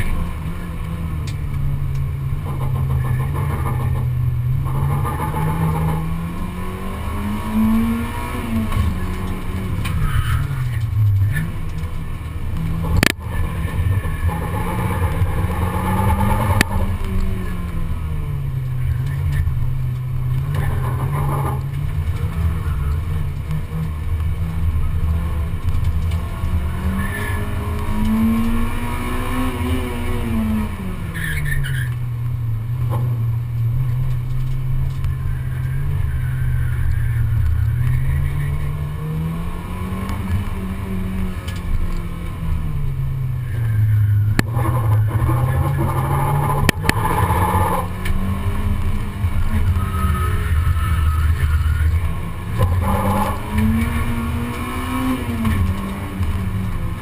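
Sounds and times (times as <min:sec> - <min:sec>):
race car engine from inside cabin: 0:00.0 - 0:57.0.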